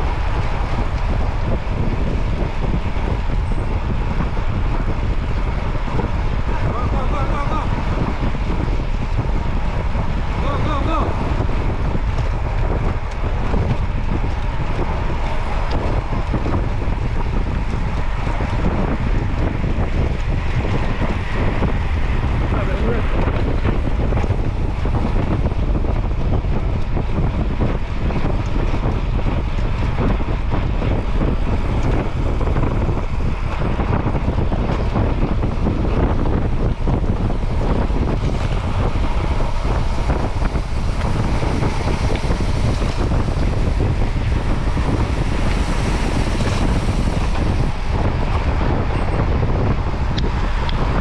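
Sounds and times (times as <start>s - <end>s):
wind buffeting the microphone: 0.0s - 51.0s.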